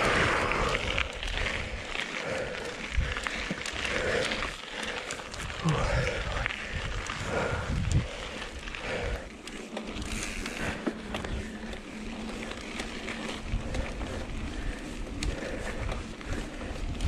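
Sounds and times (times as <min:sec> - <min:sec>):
stones and bike rattling: 0:00.0 - 0:17.0
tyres on loose gravel: 0:00.0 - 0:17.0
wind rumbling on microphone: 0:00.0 - 0:17.0.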